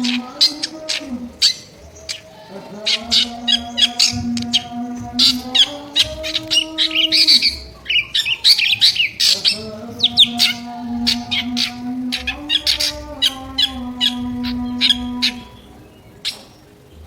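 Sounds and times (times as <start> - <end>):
bird chirping and whistling: 0.0 - 16.8
steady low hum: 0.0 - 17.0.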